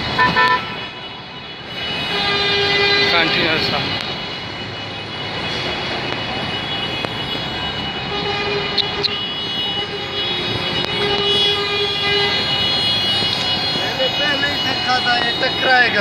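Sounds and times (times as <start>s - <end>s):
horn long steady note: 0.1s - 5.8s, 6.4s - 16.0s.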